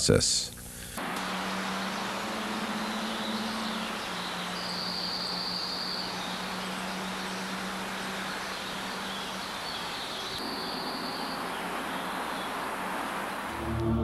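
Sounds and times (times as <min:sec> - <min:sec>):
even hiss: 0:00.0 - 0:13.8
low hum: 0:00.6 - 0:14.0
thin high steady tone: 0:01.0 - 0:14.0.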